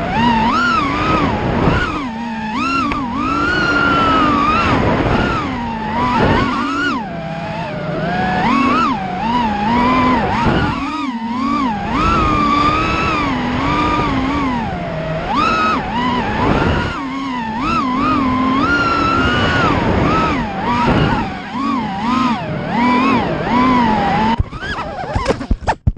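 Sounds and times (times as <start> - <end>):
drone motors whining: 0.0 - 25.8.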